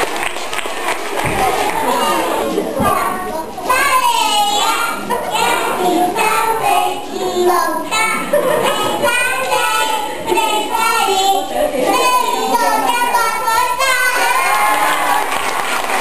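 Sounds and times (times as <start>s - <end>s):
children singing: 1.1s - 16.0s.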